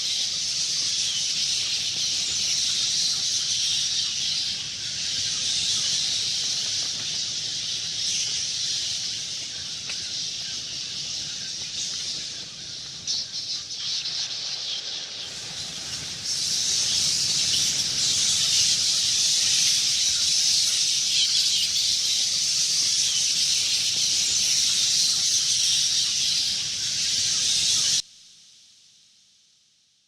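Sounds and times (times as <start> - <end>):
bats chittering: 0.0 - 28.0.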